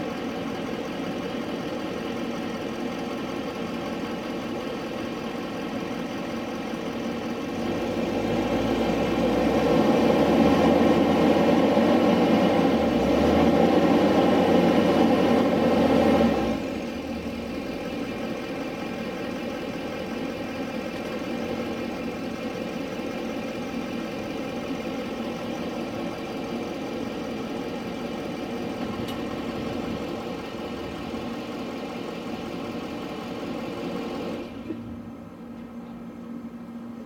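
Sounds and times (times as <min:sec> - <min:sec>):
diesel pickup engine idling: 0:00.0 - 0:37.0.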